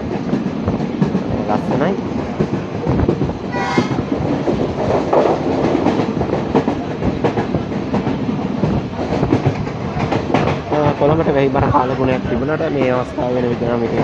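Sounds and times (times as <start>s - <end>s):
train rumbling: 0.0s - 14.0s
wheels clattering over rail joints: 2.1s - 14.0s.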